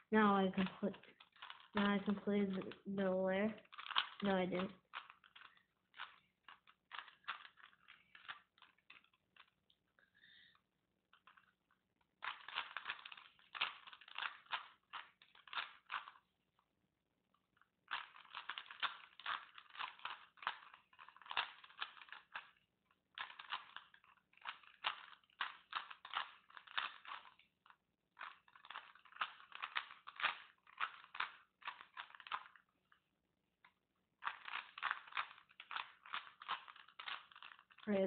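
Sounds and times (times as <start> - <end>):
plastic puzzle cube clacking: 0.1 - 9.8, 11.1 - 16.3, 17.9 - 32.7, 33.7 - 38.0.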